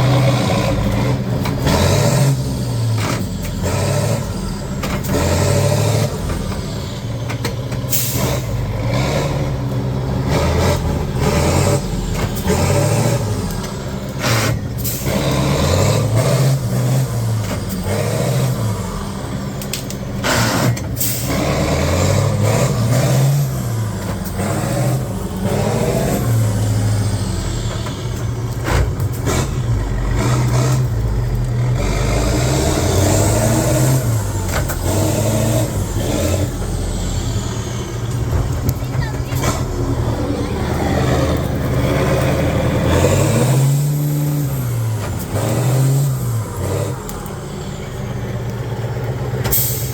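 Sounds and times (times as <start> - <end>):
truck diesel engine revving: 0.0 - 49.9.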